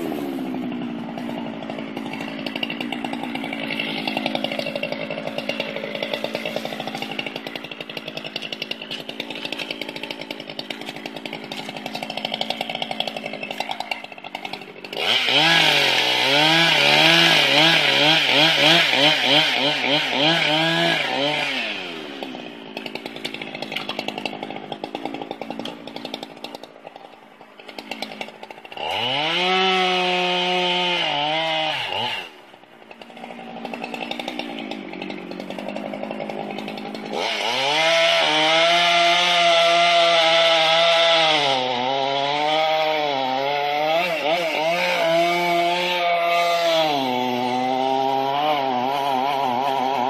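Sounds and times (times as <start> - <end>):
chainsaw idling and revving: 0.0 - 50.0.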